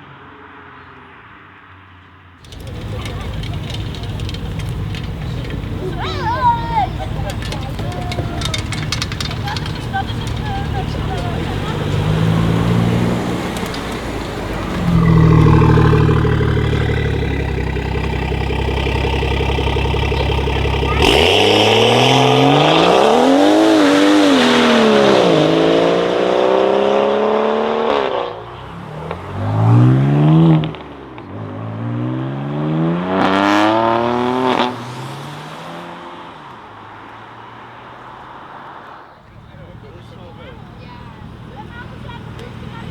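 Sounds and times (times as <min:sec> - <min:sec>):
car engine revving: 0:02.4 - 0:42.9.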